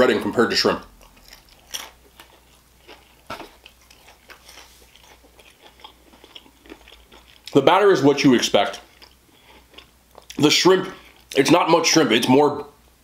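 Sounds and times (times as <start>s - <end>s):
chewing crunchy fried food: 0.2s - 11.4s.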